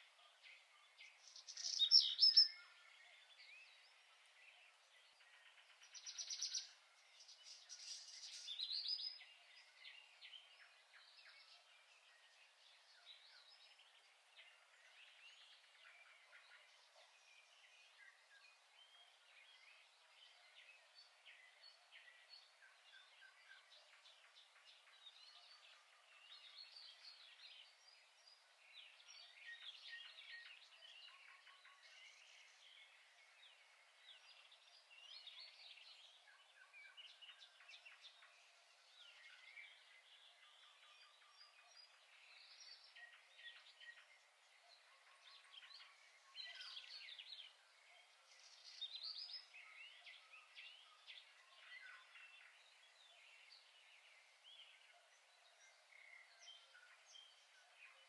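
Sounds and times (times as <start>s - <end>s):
faint birds chirping: 0.0s - 58.0s
low background hiss: 0.0s - 58.0s.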